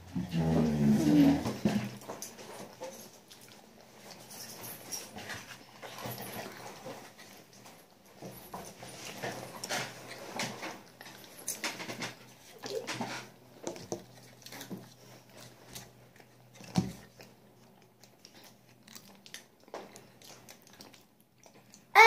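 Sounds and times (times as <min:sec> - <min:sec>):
children chewing banana: 0:00.0 - 0:22.0.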